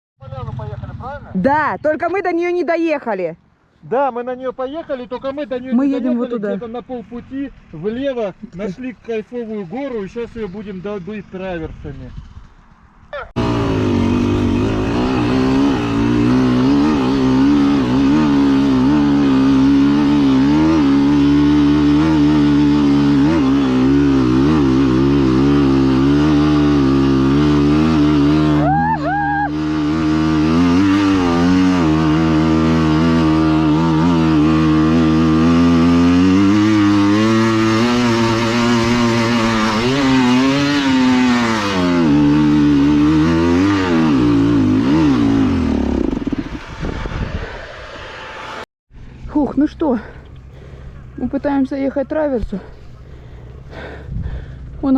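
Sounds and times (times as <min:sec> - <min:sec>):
motorcycle engine revving: 0:00.2 - 0:03.0, 0:04.4 - 0:54.9.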